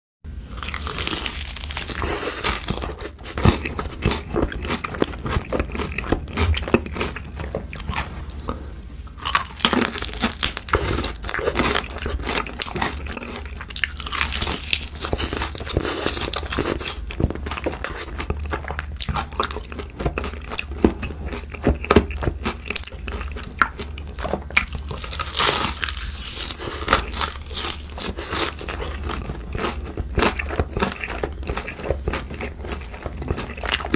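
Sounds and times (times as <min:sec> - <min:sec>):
crunching fried chicken: 0:00.4 - 0:33.9.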